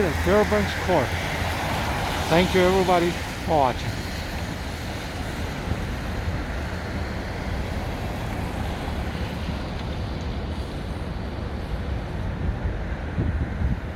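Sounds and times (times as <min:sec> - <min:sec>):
city street traffic: 0:00.0 - 0:13.9
wind buffeting microphone: 0:00.0 - 0:13.9.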